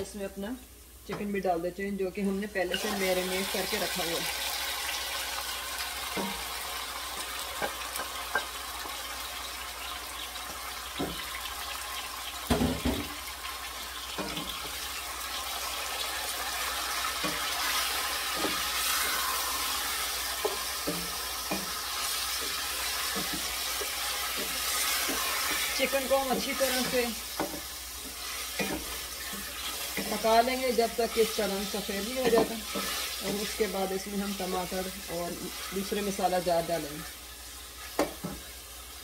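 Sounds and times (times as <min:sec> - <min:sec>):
chicken sizzling in hot oil: 0:02.6 - 0:39.0.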